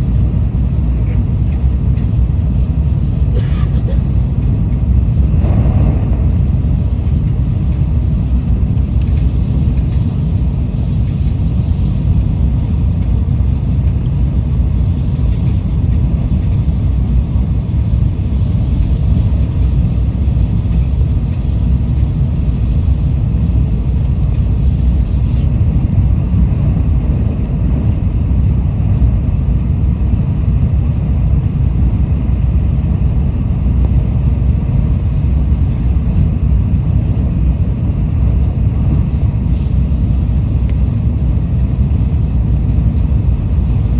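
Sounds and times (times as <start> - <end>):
train running rumble: 0.0 - 43.9.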